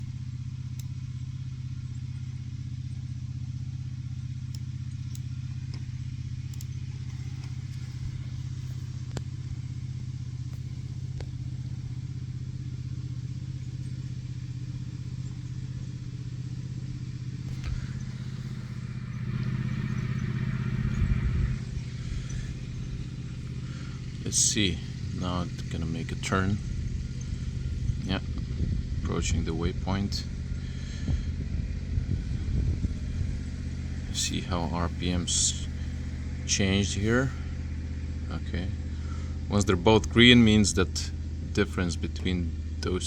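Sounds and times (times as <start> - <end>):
small petrol engine humming: 0.0 - 43.0.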